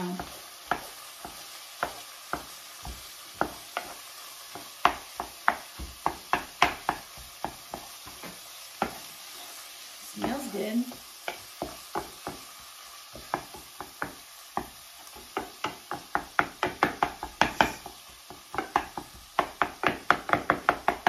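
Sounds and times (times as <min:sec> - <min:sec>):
wooden spatula scraping a skillet: 0:00.0 - 0:15.7, 0:16.6 - 0:21.0
faint sizzle of frying meat: 0:00.0 - 0:21.0.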